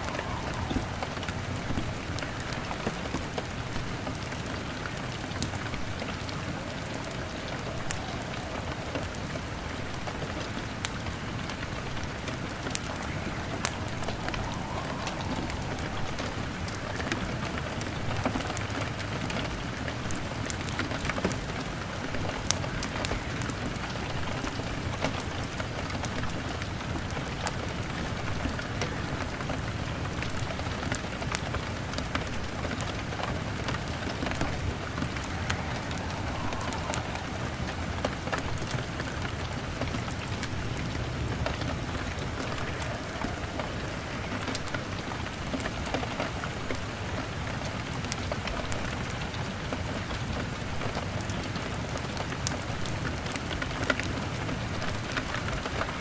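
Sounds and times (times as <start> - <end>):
fire crackling: 0.0 - 49.4
rain on a window: 0.0 - 56.0.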